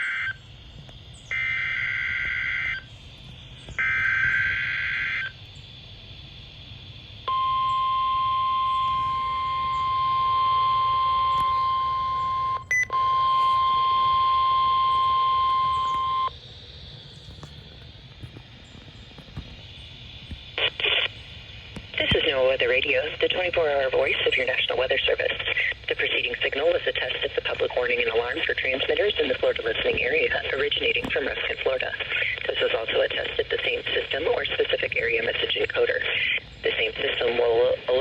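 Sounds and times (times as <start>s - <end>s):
low radio hiss: 0.0s - 38.0s
steady warning alarm tone: 0.0s - 38.0s.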